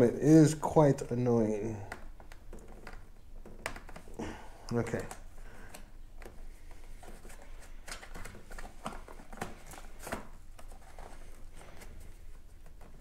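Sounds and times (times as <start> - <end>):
rubber grommet clicks and rustles: 0.9 - 13.0.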